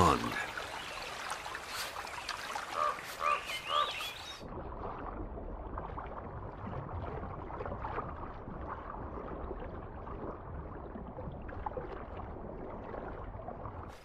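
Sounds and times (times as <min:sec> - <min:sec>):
moving water: 0:00.0 - 0:14.0.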